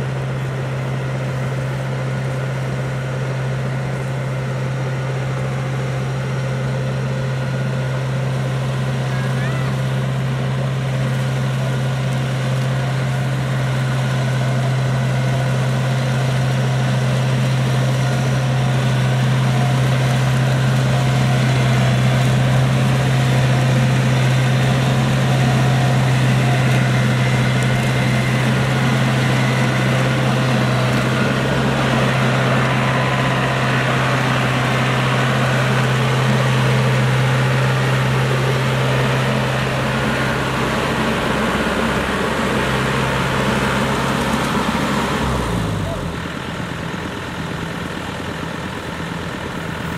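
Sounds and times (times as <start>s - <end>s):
combine harvester engine hum: 0.0s - 49.9s.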